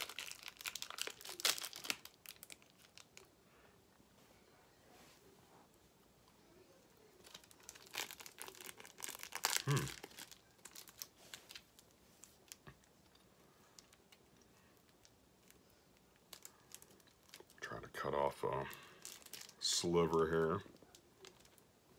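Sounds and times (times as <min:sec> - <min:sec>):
plastic wrapping crinkling: 0:00.0 - 0:03.3, 0:07.2 - 0:21.7.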